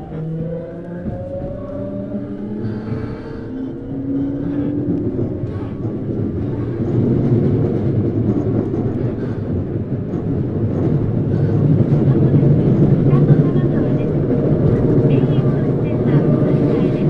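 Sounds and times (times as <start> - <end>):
train wheel and rail rumble: 0.0 - 17.0.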